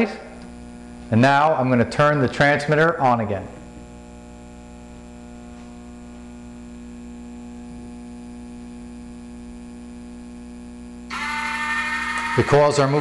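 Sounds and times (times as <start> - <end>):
electrical hum: 0.0 - 13.0
faint high whine: 0.0 - 13.0.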